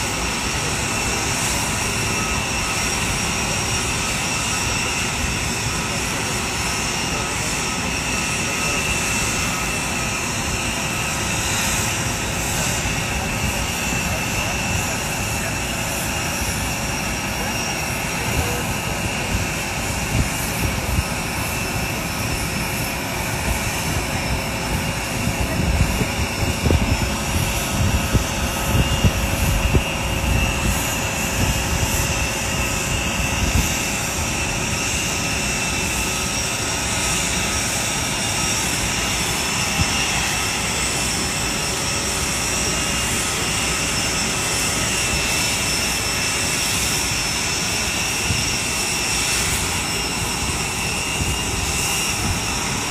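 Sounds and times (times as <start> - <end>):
jet engine whine and rumble: 0.0 - 52.9.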